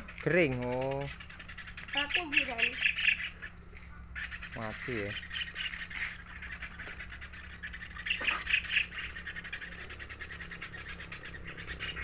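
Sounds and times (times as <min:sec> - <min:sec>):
birds chattering: 0:00.0 - 0:12.0.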